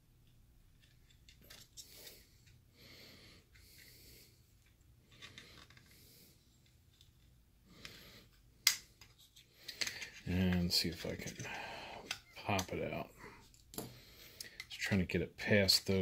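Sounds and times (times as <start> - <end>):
soft breaths: 1.4 - 14.8.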